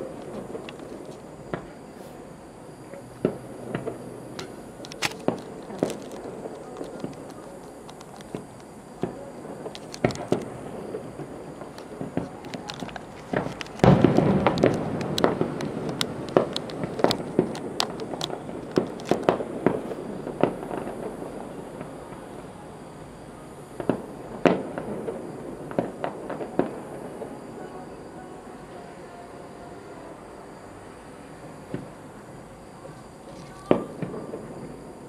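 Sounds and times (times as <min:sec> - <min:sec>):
loud fireworks boom: 0:00.0 - 0:12.4, 0:13.3 - 0:27.7, 0:32.8 - 0:35.0
distant fireworks bangs: 0:00.0 - 0:22.5, 0:23.7 - 0:30.0, 0:30.8 - 0:35.0.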